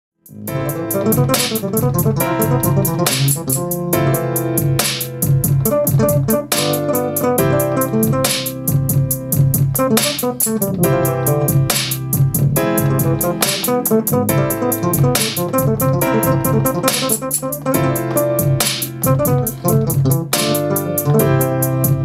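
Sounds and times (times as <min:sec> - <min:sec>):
hi-hat ticks: 0:00.2 - 0:22.0
hip-hop beat: 0:00.2 - 0:22.0
deep bass line: 0:00.3 - 0:22.0
piano-like keyboard chords: 0:00.3 - 0:22.0.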